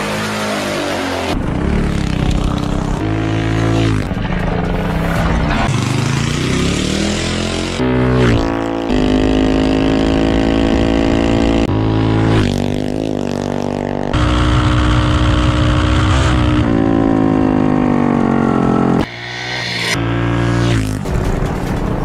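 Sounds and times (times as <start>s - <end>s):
minibike engines revving: 0.0s - 22.0s.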